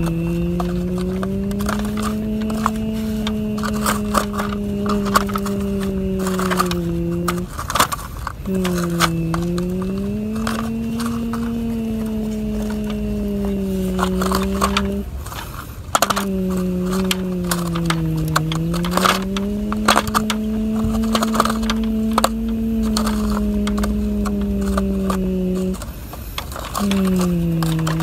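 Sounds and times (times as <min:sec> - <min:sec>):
humming drone gliding in pitch: 0:00.0 - 0:07.8, 0:08.4 - 0:28.0
toy bucket scraping dirt and stones: 0:00.0 - 0:28.0.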